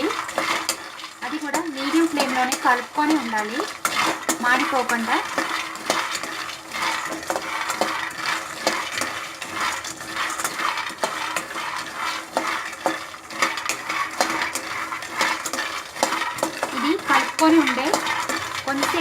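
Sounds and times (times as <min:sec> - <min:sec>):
nuts rattling in a pan: 0:00.0 - 0:19.0.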